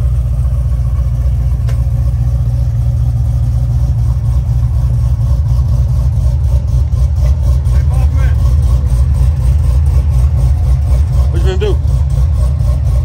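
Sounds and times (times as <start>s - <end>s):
engine idling low rumble: 0.0s - 13.0s.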